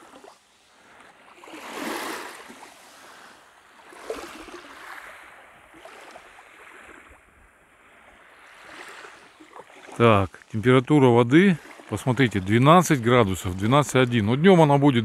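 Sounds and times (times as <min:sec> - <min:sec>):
small waves lapping on shore: 0:00.0 - 0:15.0.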